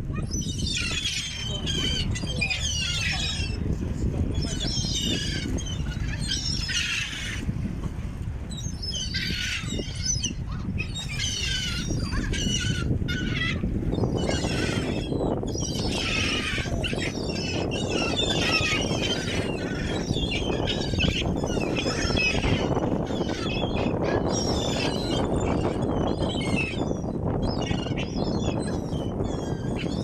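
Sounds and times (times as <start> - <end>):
gulls squawking: 0.1 - 7.7, 8.5 - 30.0.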